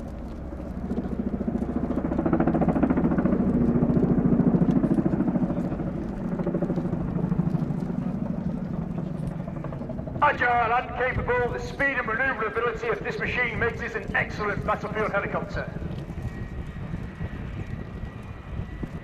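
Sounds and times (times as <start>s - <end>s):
helicopter engine noise: 0.0s - 19.0s
helicopter rotors beating: 0.0s - 19.0s.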